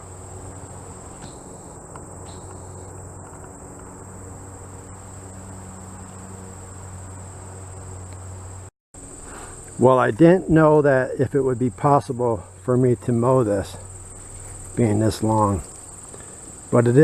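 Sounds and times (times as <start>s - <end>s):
crickets trilling: 0.0s - 17.0s
low steady hum: 0.0s - 17.0s.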